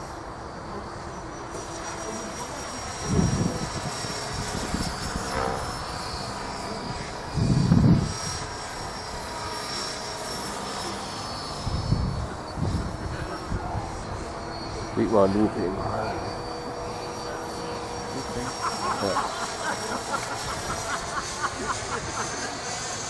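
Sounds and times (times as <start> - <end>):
model helicopter whine: 0.0 - 23.0
wind buffeting microphone: 2.0 - 10.2, 11.5 - 17.0, 17.8 - 23.0.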